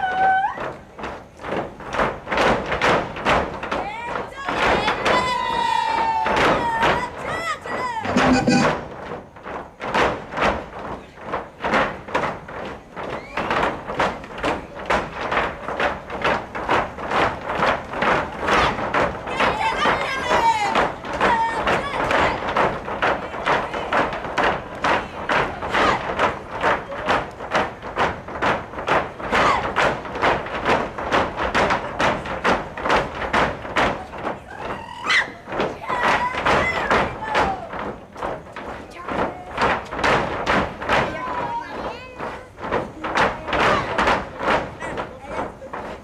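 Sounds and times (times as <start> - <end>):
shoes stamping on stage floor: 0.0 - 46.0.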